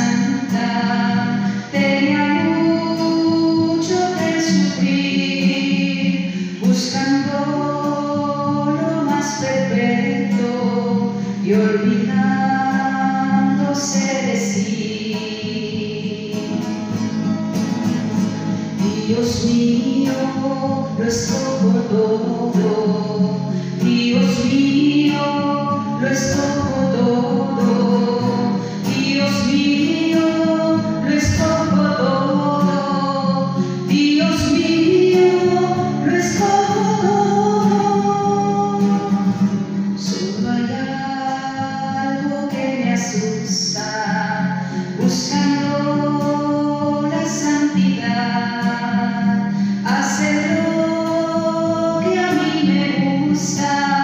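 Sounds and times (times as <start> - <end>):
strummed acoustic guitar: 0.0 - 54.0
woman singing: 0.0 - 54.0.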